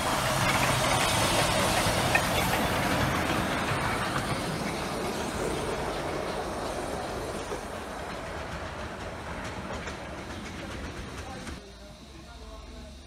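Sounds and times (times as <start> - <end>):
miniature steam train rolling: 0.0 - 13.0.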